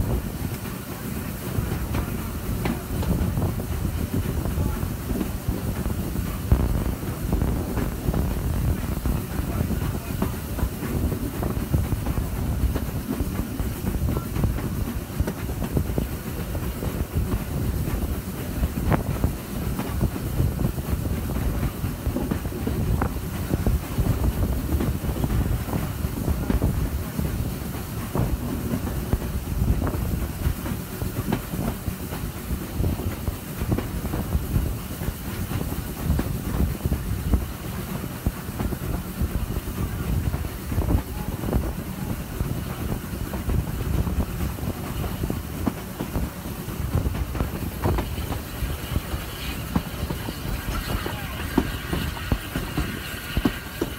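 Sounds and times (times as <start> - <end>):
rail joint clicks: 0.0 - 53.9
train wheels rumbling on track: 0.0 - 53.9.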